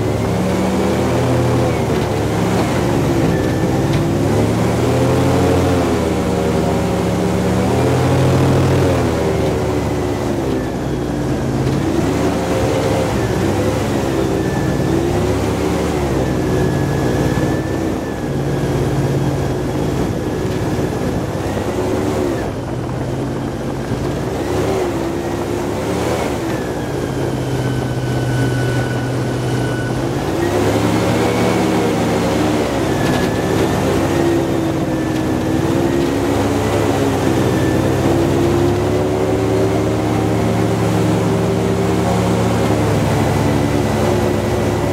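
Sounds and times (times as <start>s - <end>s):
airboat engine and propeller: 0.0s - 44.9s.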